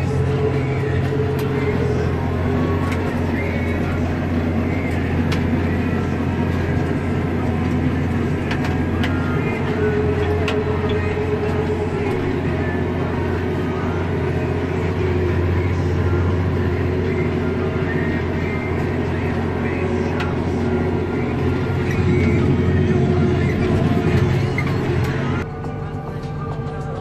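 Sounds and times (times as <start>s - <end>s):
tractor diesel engine drone: 0.0s - 27.0s.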